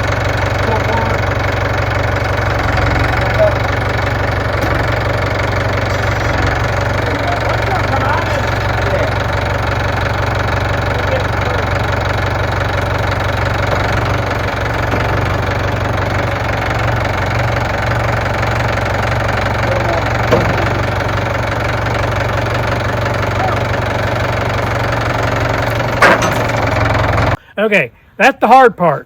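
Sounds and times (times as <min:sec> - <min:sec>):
clunk: 0:00.0 - 0:27.4
loader engine rumbling: 0:00.0 - 0:27.4.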